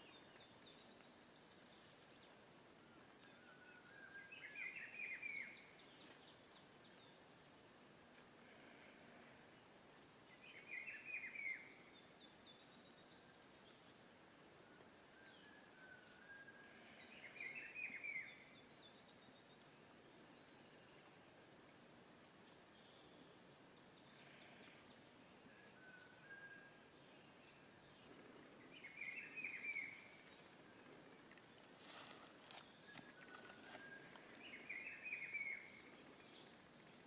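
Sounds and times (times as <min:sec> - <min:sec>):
quiet steady hiss: 0:00.0 - 0:37.0.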